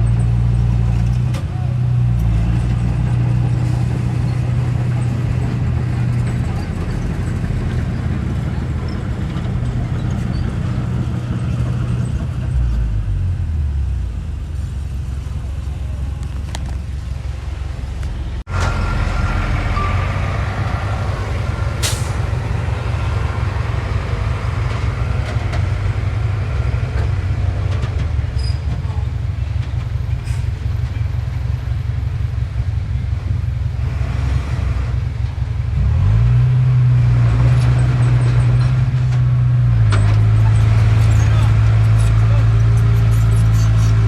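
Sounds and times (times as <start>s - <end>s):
heavy diesel engine rumbling: 0.0s - 44.0s.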